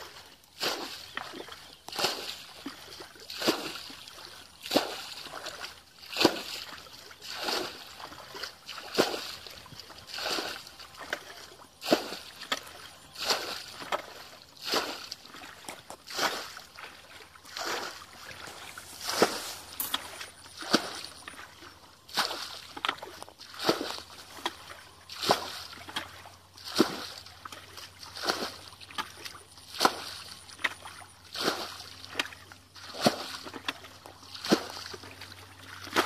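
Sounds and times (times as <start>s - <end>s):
bucket scooping and splashing water: 0.0s - 36.0s.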